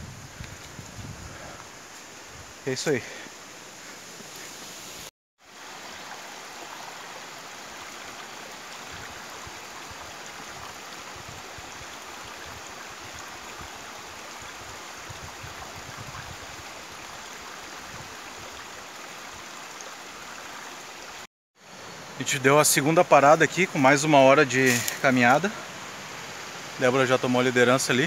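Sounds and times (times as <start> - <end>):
stream rushing over stones: 0.3 - 28.0.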